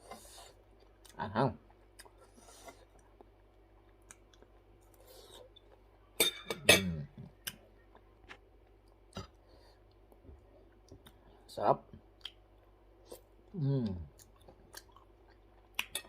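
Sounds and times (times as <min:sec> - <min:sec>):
person chewing: 0:00.0 - 0:06.0, 0:07.4 - 0:11.3, 0:12.1 - 0:16.0.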